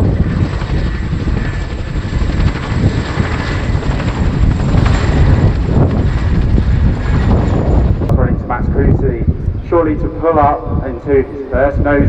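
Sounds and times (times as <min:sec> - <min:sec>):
helicopter engine noise: 0:00.0 - 0:12.0
helicopter rotor blades slapping: 0:00.0 - 0:12.0.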